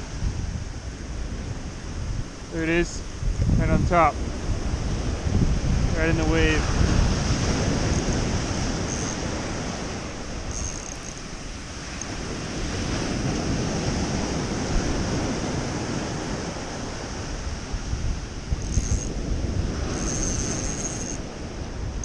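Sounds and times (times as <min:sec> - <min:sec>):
ocean surf washing on beach: 0:00.0 - 0:22.0
wind buffeting microphone: 0:00.0 - 0:22.0.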